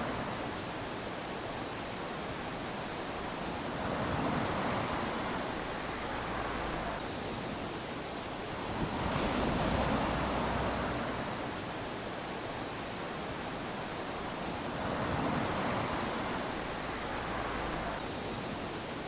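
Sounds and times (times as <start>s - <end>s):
small waves washing onto sand: 0.0s - 7.0s, 7.6s - 18.0s.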